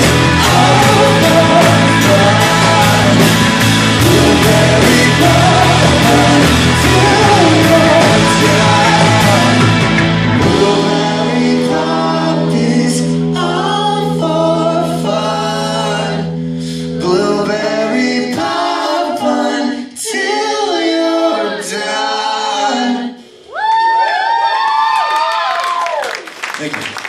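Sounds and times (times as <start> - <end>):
rock band held chord: 0.0 - 23.0
voices singing in harmony: 0.0 - 23.3.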